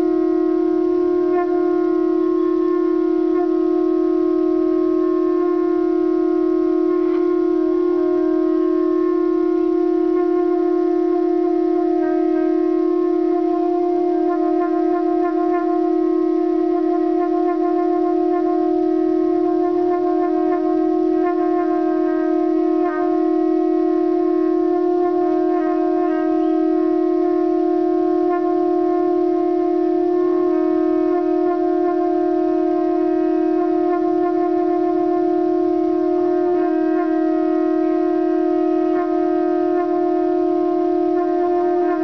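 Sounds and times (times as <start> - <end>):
conch shells blowing: 0.0 - 42.0.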